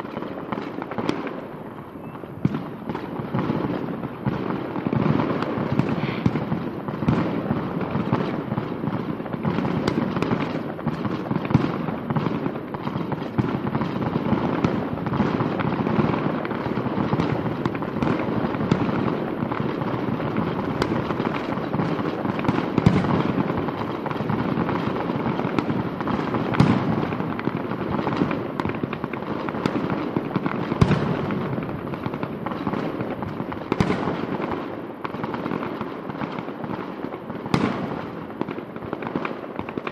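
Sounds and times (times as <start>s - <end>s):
fireworks bursting and crackling: 0.0s - 39.9s
loud firework bangs: 0.0s - 39.9s.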